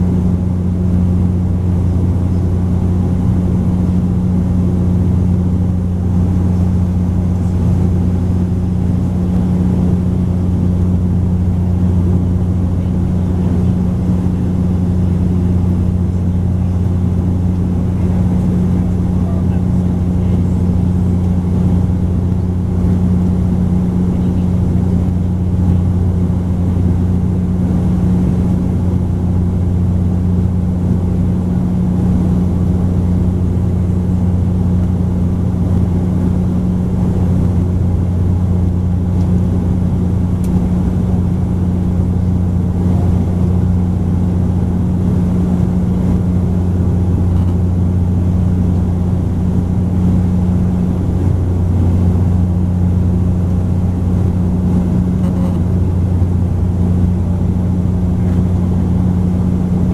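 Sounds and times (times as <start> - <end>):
even rumble: 0.0 - 59.9
propeller cabin drone: 0.0 - 59.9.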